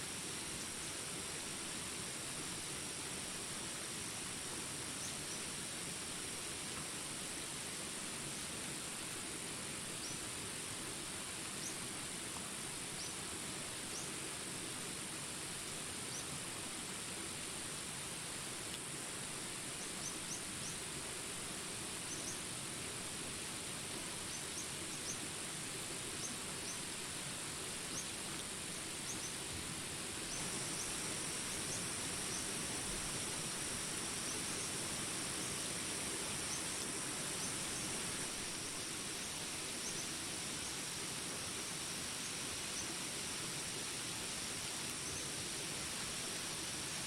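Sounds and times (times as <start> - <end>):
high insect drone: 0.0 - 47.0
steady high insect tone: 0.0 - 47.0
rain hissing: 0.1 - 47.0.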